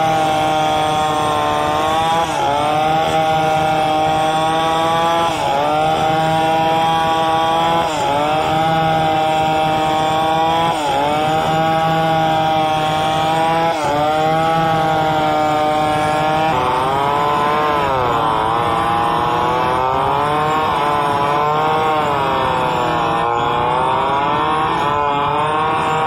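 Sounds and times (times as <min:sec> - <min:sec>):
chainsaw cutting log: 0:00.0 - 0:26.0.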